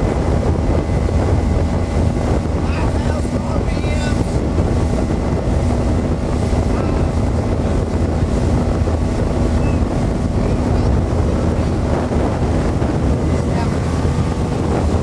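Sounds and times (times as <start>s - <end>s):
outboard motor running: 0.0s - 15.0s
water rushing past hull: 0.0s - 15.0s
wind buffeting microphone: 0.0s - 15.0s.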